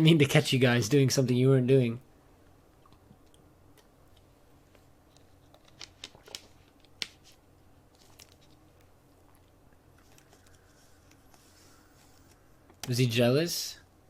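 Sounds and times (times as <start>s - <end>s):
quiet room hum: 0.0s - 14.0s.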